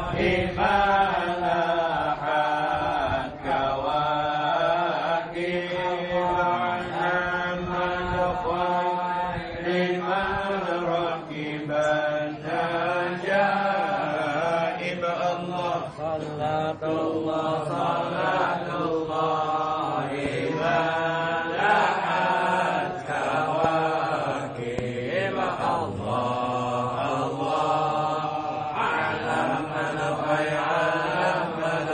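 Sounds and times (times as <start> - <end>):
men chanting together: 0.0 - 31.9.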